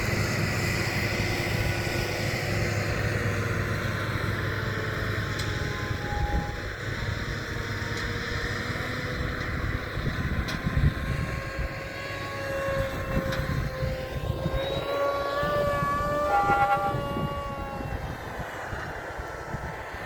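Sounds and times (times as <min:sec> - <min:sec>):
low rumble of driving vehicle: 0:00.0 - 0:20.0
vehicle drivetrain whining: 0:00.0 - 0:20.0.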